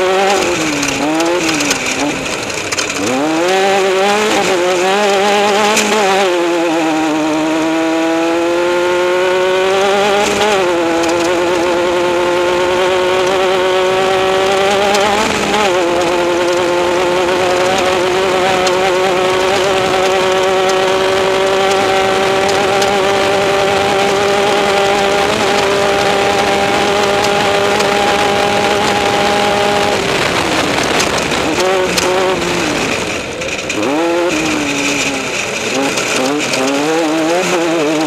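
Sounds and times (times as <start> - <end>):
race vehicle engine revving high: 0.0 - 38.0.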